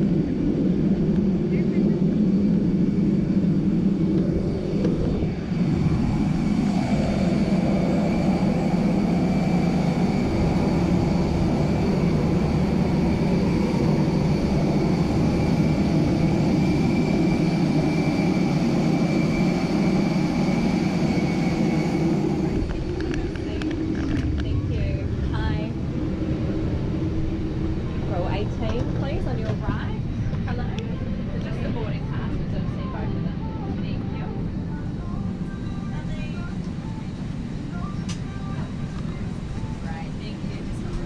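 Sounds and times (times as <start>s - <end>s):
high turbine whine: 0.0s - 41.0s
jet turbine roar: 0.0s - 41.0s.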